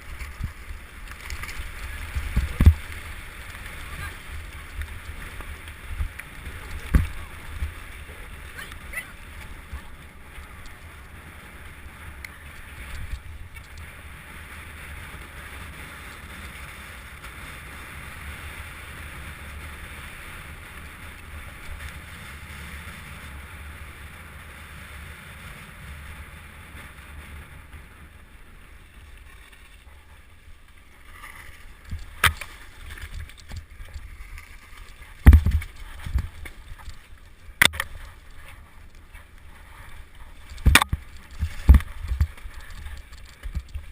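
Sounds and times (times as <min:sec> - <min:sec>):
wind rushing on microphone: 0:00.0 - 0:28.4, 0:31.8 - 0:43.9.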